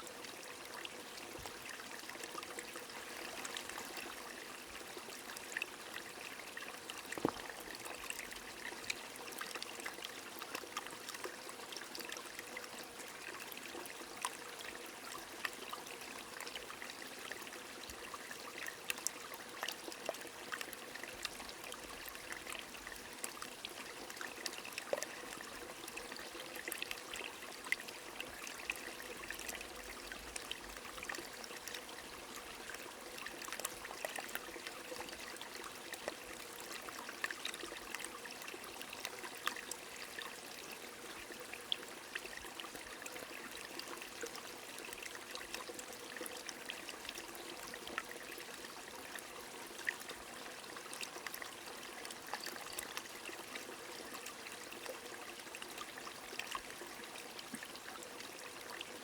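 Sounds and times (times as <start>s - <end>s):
small stream flowing: 0.0s - 59.0s.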